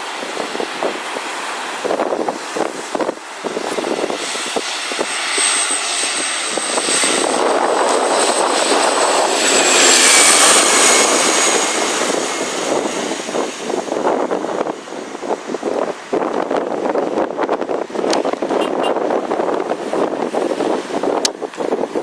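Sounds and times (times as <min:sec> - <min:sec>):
aircraft engines roaring: 0:00.0 - 0:22.0.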